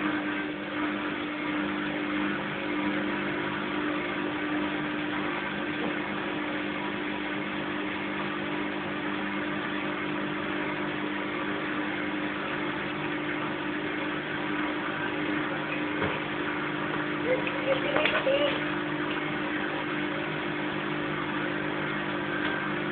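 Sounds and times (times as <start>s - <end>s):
washing machine spinning: 0.0s - 22.9s.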